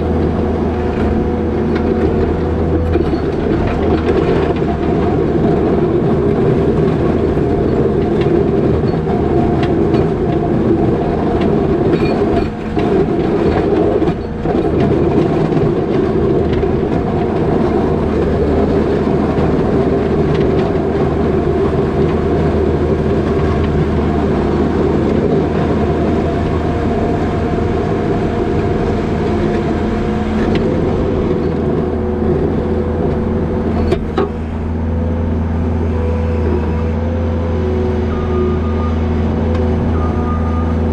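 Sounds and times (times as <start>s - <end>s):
diesel engine whining: 0.0s - 40.9s.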